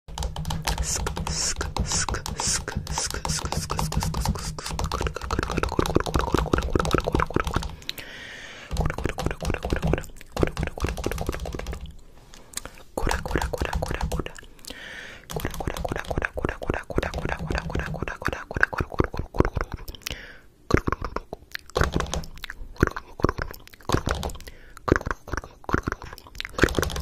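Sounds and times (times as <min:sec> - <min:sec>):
fingers rubbing and tapping phone: 0:00.2 - 0:07.8, 0:08.7 - 0:11.9, 0:13.0 - 0:14.4, 0:15.3 - 0:19.8, 0:20.8 - 0:27.0.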